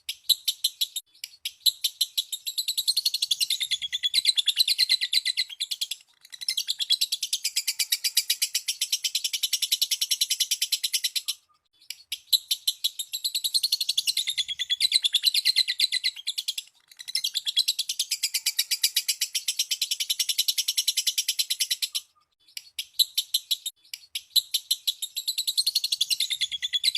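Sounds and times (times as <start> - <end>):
lovebird chattering trill: 0.1 - 26.9.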